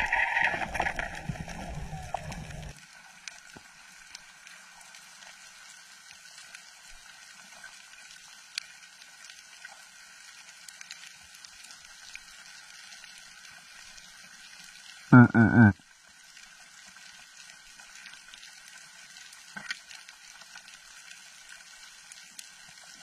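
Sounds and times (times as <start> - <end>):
small clicks and crackles: 0.0 - 15.1, 15.8 - 23.0
faint water hiss: 0.0 - 23.0.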